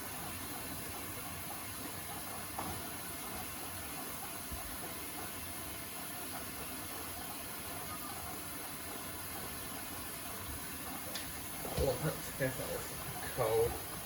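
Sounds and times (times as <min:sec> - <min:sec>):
water hissing into washing machine: 0:00.0 - 0:14.0.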